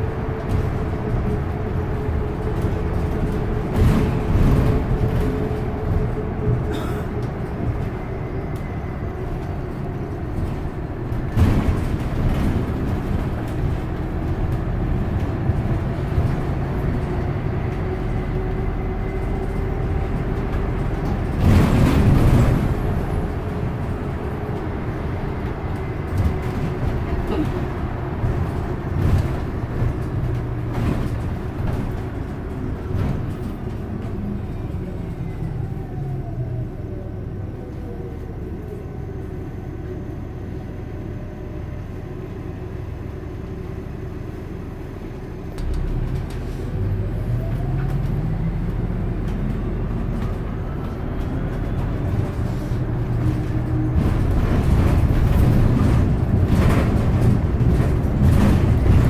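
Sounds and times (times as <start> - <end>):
bus drivetrain and road rumble: 0.0 - 59.0.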